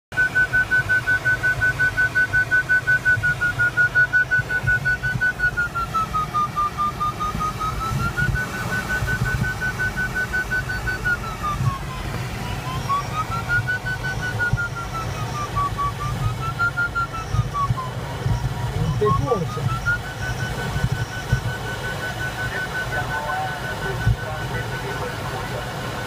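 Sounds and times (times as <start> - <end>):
airflow rushing around cockpit: 0.1 - 26.0
variometer beeping rapidly: 0.1 - 26.0.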